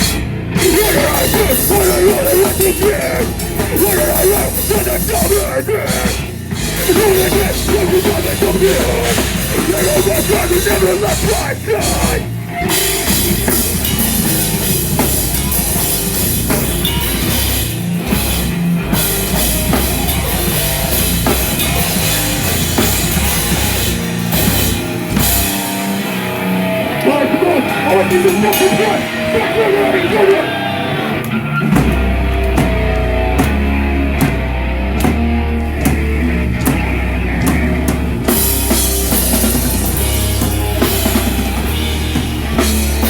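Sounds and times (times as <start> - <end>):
distorted guitars: 0.0 - 43.0
pounding drum kit: 0.0 - 43.0.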